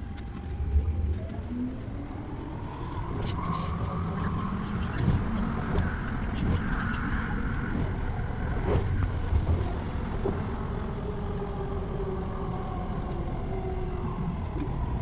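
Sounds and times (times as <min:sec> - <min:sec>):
vehicle low rumble: 0:00.0 - 0:15.0.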